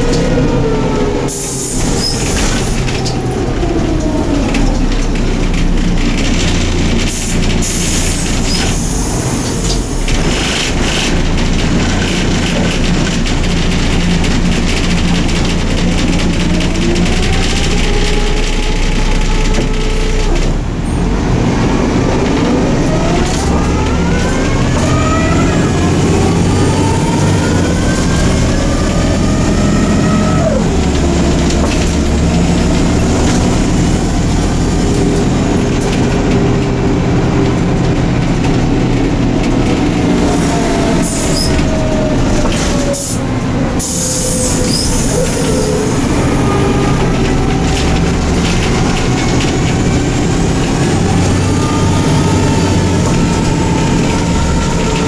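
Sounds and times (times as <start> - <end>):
bus engine whining: 0.0 - 55.0.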